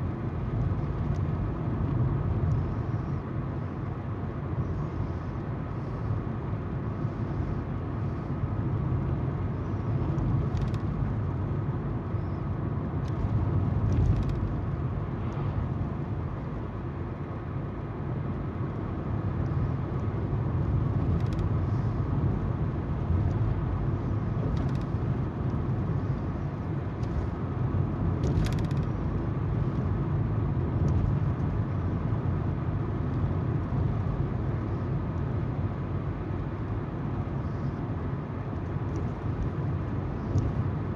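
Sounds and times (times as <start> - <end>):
car engine hum: 0.0 - 40.9.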